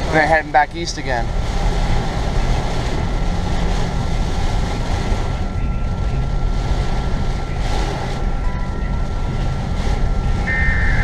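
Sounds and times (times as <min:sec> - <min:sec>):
rain on car: 0:00.0 - 0:11.0
road and engine rumble: 0:00.0 - 0:11.0
windshield wipers sweeping: 0:01.0 - 0:11.0.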